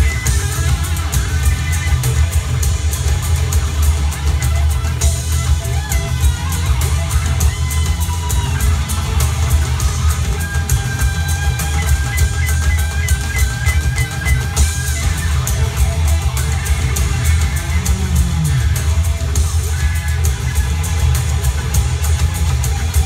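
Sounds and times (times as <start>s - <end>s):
held lead melody: 0.0s - 23.0s
rock music through loudspeaker: 0.0s - 23.0s.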